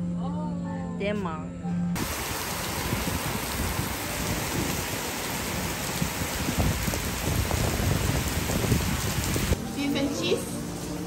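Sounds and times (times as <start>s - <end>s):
heavy rain on decking and foliage: 2.0s - 11.0s.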